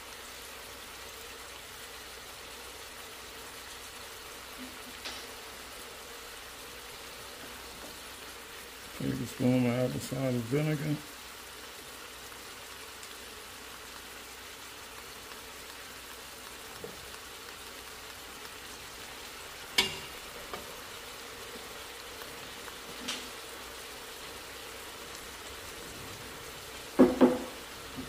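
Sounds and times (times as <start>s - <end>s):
meat sizzling in a pot: 0.0s - 28.0s.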